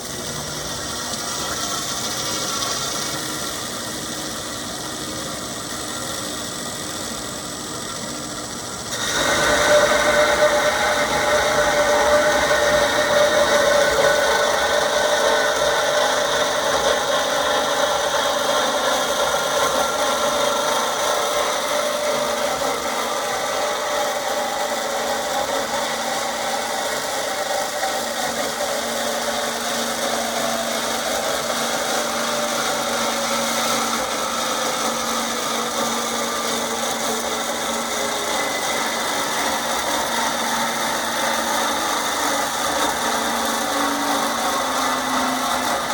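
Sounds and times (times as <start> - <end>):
band saw running: 0.0 - 45.9.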